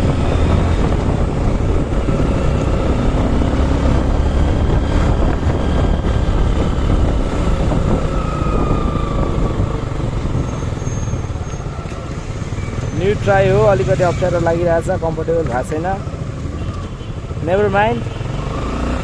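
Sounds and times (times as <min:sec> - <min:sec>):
wind rumble: 0:00.0 - 0:17.4
motorcycle engine: 0:00.0 - 0:19.0
road traffic: 0:00.0 - 0:19.0.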